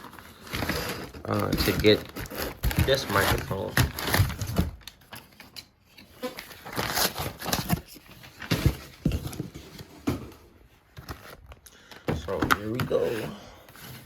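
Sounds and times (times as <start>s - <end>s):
packaging taps and rustles: 0.0s - 13.2s.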